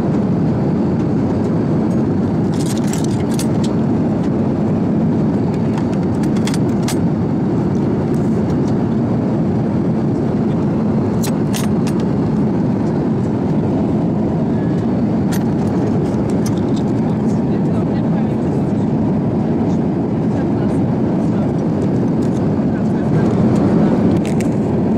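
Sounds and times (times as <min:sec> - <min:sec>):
airliner cabin roar: 0:00.0 - 0:24.9.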